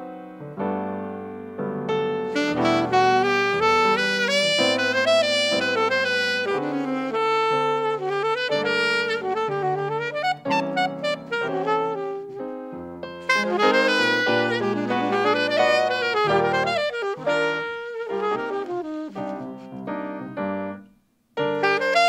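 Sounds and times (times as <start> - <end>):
sustained piano chords: 0.0 - 18.6
saxophone melody: 2.2 - 20.8, 21.4 - 22.0.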